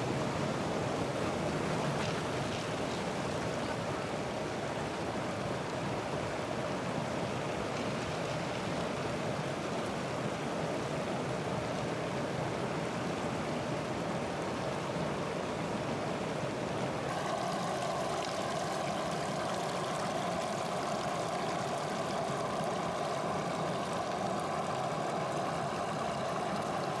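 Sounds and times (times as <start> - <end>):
faint steady hum: 0.0 - 27.0
river water rushing and splashing: 0.0 - 27.0.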